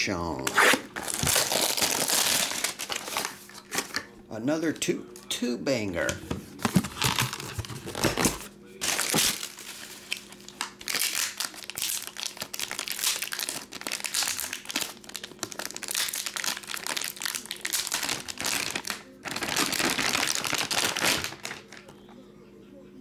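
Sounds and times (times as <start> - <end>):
foil wrapper crinkling: 0.5 - 4.0, 6.7 - 22.1.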